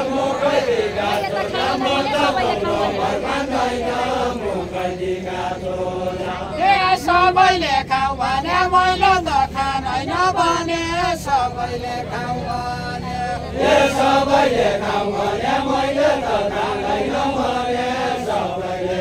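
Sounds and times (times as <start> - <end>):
voices singing unaccompanied: 0.0 - 19.0.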